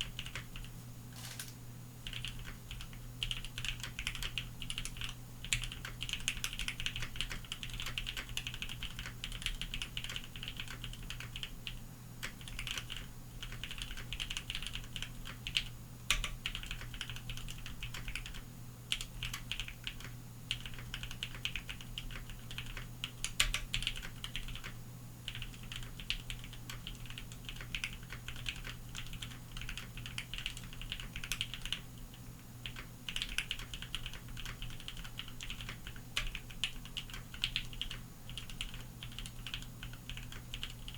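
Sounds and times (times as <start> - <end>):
mechanical keyboard typing: 0.0 - 31.8, 32.6 - 40.9
low background hum: 0.0 - 40.9.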